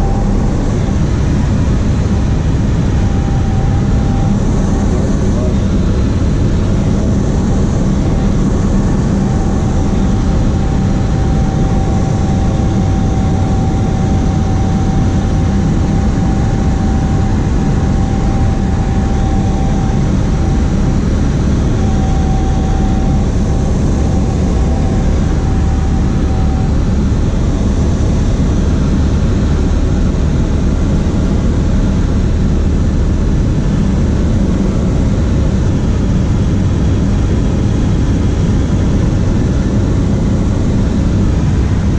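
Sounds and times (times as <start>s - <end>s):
plane engine and propeller droning: 0.0s - 41.9s.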